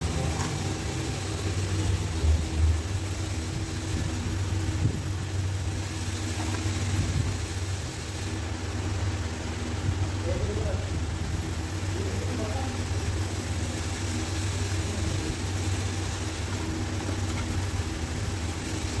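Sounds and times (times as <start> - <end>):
motor droning hum: 0.0 - 19.0.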